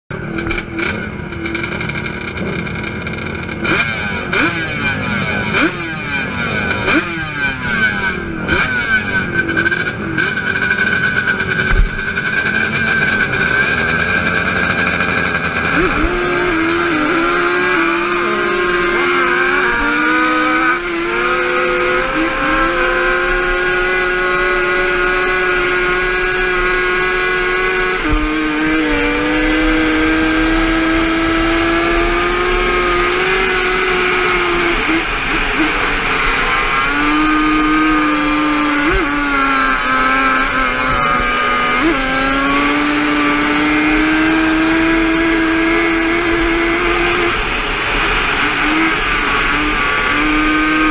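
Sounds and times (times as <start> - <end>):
two-stroke quad engine revving: 0.1 - 50.9.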